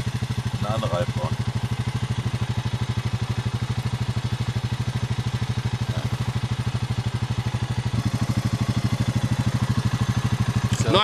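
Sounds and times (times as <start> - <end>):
quad bike engine idling: 0.0 - 11.0.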